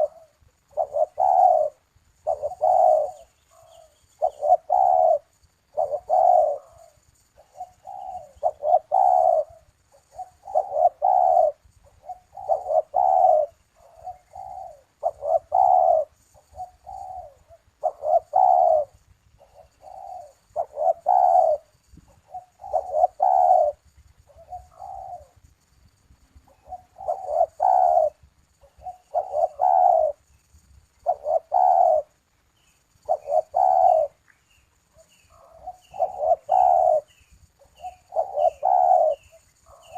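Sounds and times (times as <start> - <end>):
collared dove cooing: 0.0 - 25.5, 26.4 - 30.4, 31.0 - 32.2, 33.0 - 34.2, 34.9 - 39.9.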